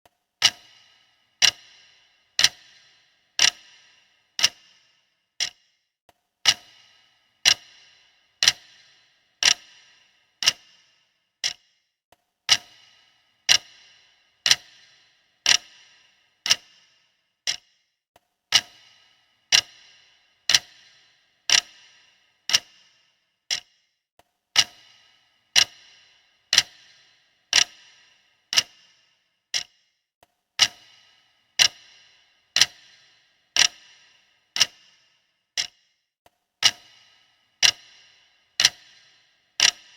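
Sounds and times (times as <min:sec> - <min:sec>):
mechanical clock ticking: 0:00.1 - 0:17.9, 0:18.5 - 0:39.9.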